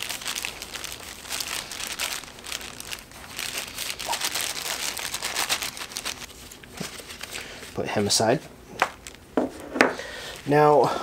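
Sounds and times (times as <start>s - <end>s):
plastic sheeting crinkling: 0.0s - 9.2s.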